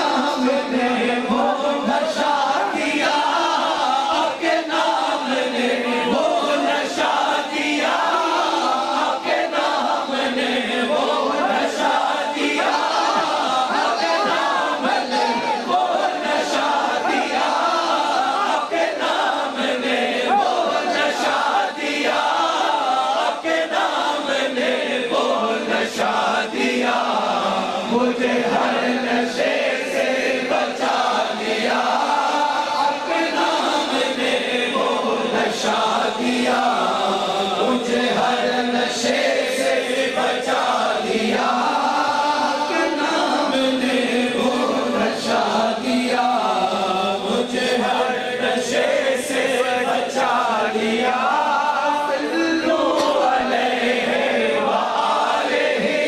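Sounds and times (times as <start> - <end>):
lead singers on microphones: 0.0 - 56.0
men chanting devotional song: 0.0 - 56.0.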